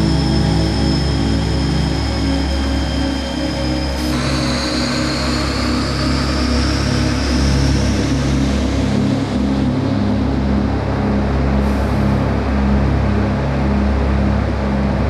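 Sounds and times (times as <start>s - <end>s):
high whine: 0.0s - 15.0s
jet engine noise in cockpit: 0.0s - 15.0s
music with pulsing low notes: 0.0s - 15.0s.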